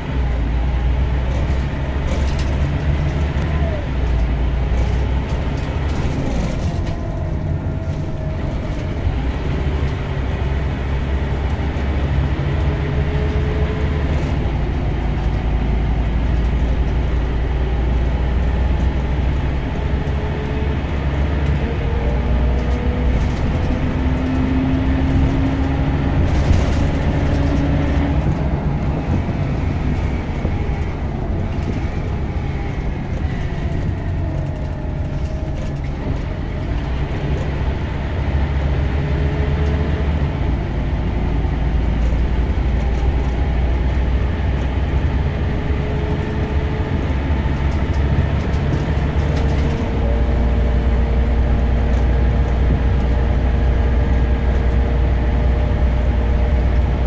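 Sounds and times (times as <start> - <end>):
bus diesel engine drone: 0.0 - 57.0
road noise: 0.0 - 57.0.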